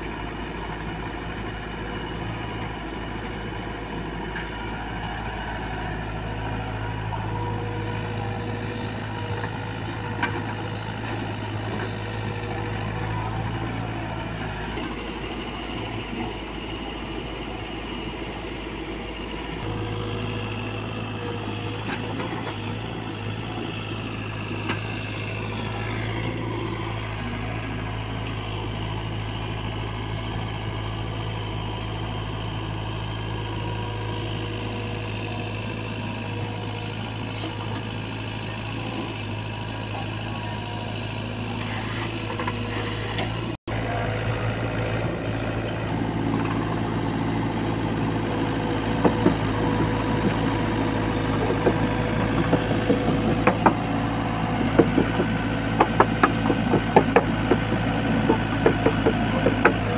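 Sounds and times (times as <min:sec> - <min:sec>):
diesel engines humming: 0:00.0 - 0:59.9.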